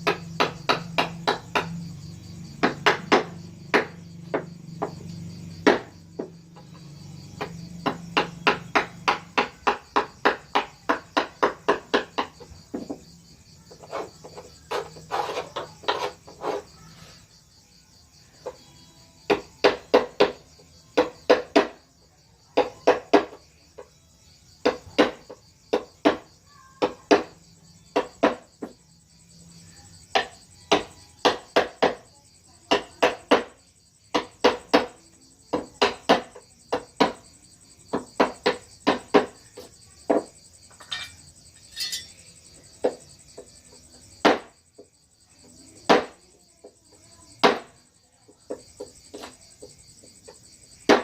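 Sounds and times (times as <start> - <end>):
crickets droning: 0.0 - 51.0.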